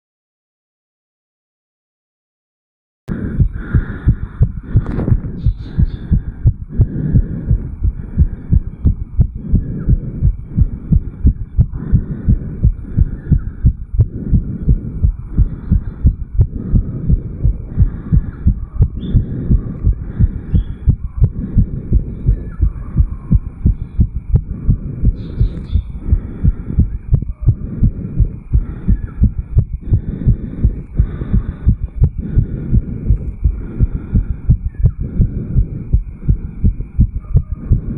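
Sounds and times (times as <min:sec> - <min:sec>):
fast heartbeat: 0:03.1 - 0:37.9.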